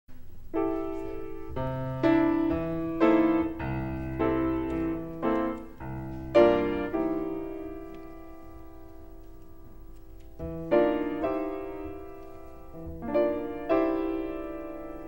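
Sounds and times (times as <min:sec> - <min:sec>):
piano chords ringing: 0:00.1 - 0:15.0.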